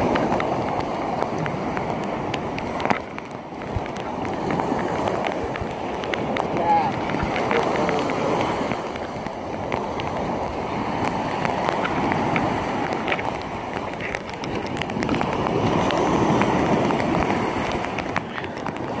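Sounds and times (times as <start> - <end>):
small ticks: 0.0 - 19.0
surf washing up beach: 0.0 - 19.0
wind on microphone: 0.0 - 19.0.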